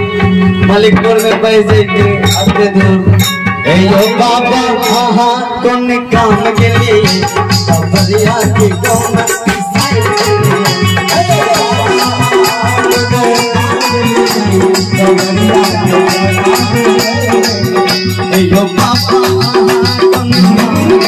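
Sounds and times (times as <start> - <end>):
electronic keyboard melody: 0.0 - 21.0
steady drum beat: 0.0 - 21.0
rattling percussion: 0.2 - 21.0.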